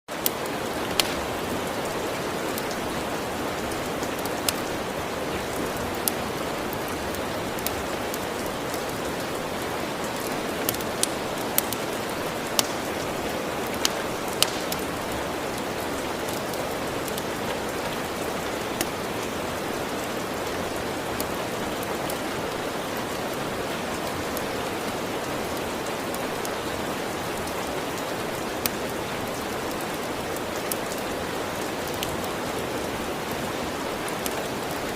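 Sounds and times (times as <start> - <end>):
log fire crackling: 0.1 - 34.9
steady rain falling: 0.1 - 34.9.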